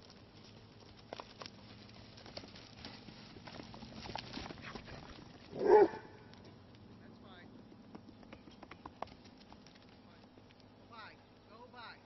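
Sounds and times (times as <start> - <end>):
sheep hooves on dry ground: 0.0 - 12.0.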